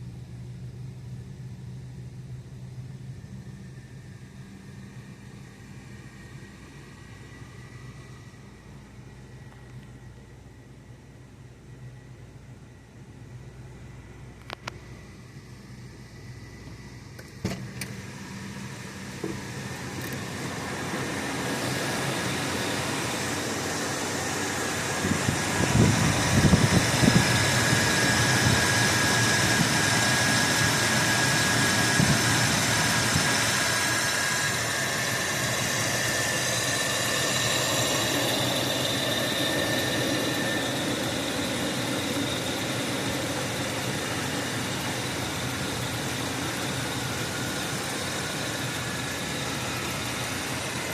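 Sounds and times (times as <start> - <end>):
car engine starting and idling: 0.0 - 50.9.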